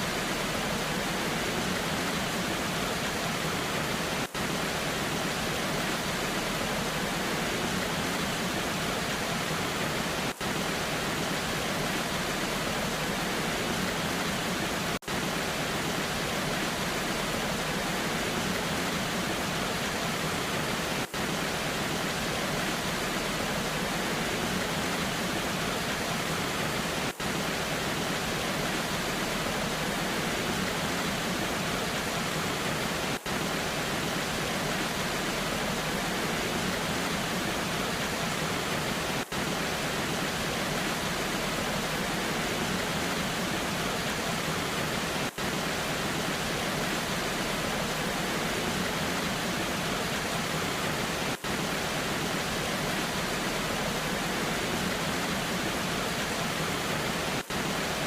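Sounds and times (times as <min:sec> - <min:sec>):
rain: 0:00.0 - 0:58.0
waterfall rushing: 0:00.0 - 0:58.0.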